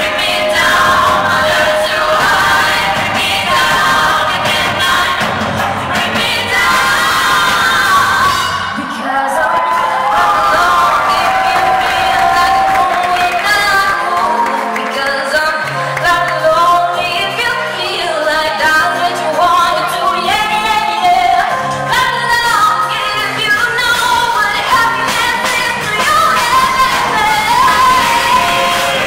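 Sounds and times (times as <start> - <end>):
children's choir singing: 0.0 - 29.0
live band playing: 0.0 - 29.0.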